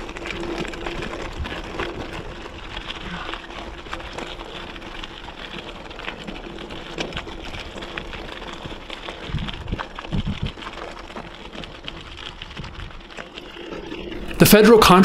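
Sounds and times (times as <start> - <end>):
bike rattling: 0.0 - 15.0
bike tyres crunching on gravel: 0.0 - 15.0.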